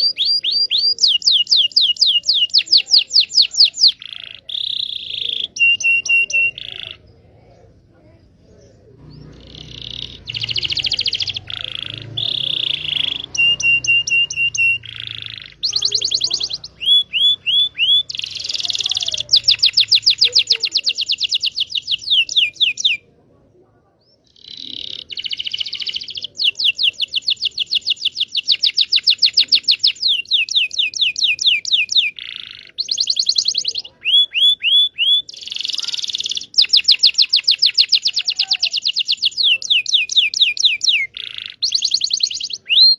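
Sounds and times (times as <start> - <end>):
canary singing: 0.0 - 23.4, 24.0 - 42.9.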